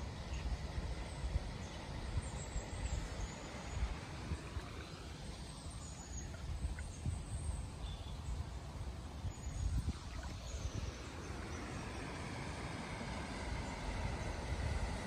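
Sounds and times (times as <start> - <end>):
low uneven rumble: 0.0 - 15.0.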